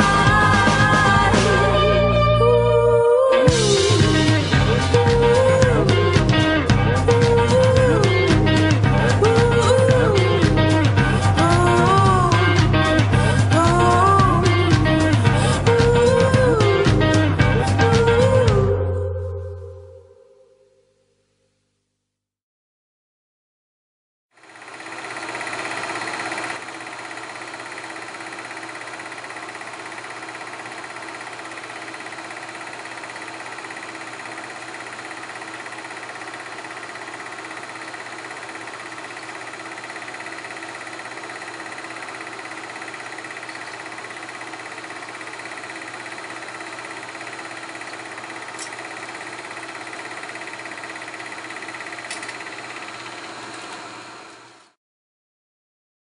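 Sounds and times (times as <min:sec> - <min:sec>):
film projector whirring: 0:00.0 - 0:02.1, 0:03.5 - 0:18.5, 0:24.4 - 0:54.8.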